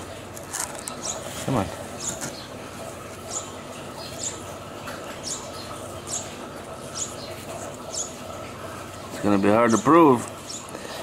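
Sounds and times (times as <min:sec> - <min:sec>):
bird chirping: 0:00.6 - 0:02.6, 0:03.2 - 0:09.8, 0:10.4 - 0:11.0.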